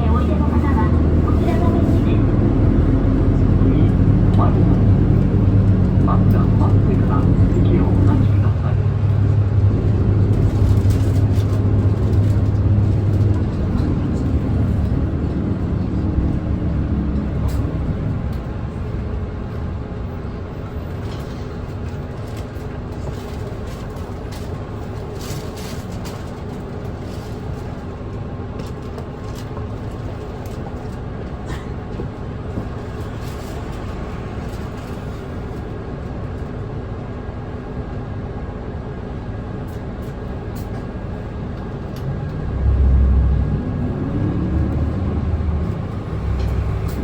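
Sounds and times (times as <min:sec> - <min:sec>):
bus diesel engine droning: 0:00.0 - 0:47.0
road noise: 0:00.0 - 0:47.0.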